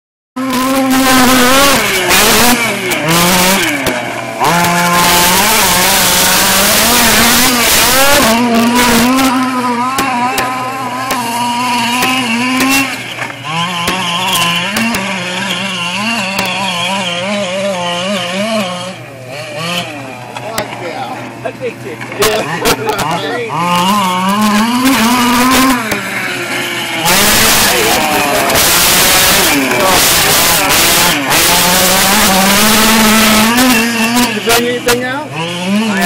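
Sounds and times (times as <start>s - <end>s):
small two-stroke engine revving: 0.4s - 36.0s.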